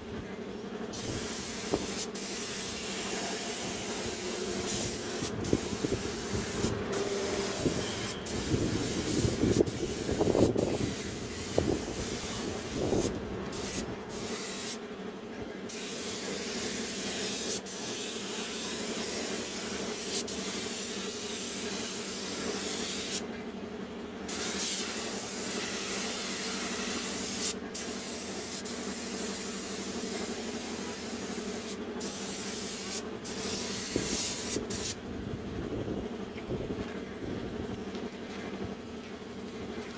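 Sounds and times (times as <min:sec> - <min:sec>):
steady low hum: 0:00.0 - 0:39.9
paint spray gun hissing: 0:01.0 - 0:14.8, 0:15.7 - 0:23.2, 0:24.3 - 0:35.0.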